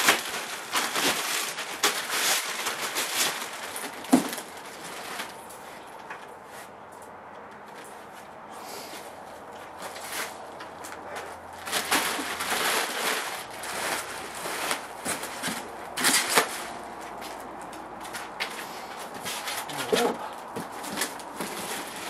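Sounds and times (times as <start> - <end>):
foam packing handled: 0.0 - 5.6, 9.0 - 22.0
plastic bags crinkling: 0.0 - 6.0, 9.5 - 22.0.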